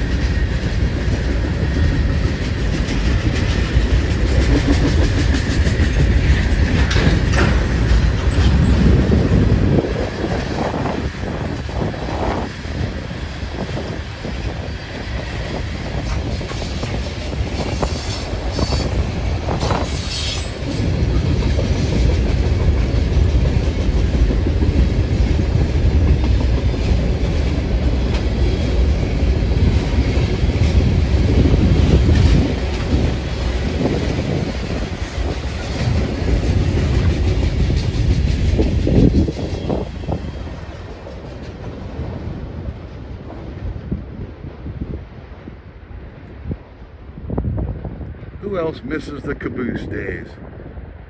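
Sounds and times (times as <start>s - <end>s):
wheels clacking over rail joints: 0.0s - 43.8s
freight train rumbling past: 0.0s - 51.0s.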